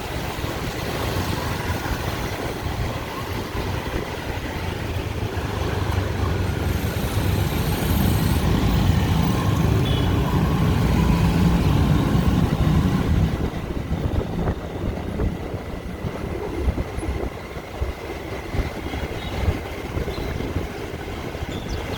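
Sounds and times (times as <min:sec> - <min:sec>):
car engines passing: 0:00.0 - 0:21.9
motorbike engines passing: 0:00.0 - 0:21.9.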